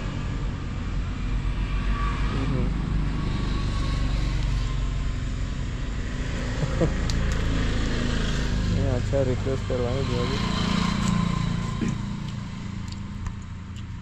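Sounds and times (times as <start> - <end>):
motor vehicle engine running: 0.0 - 14.0.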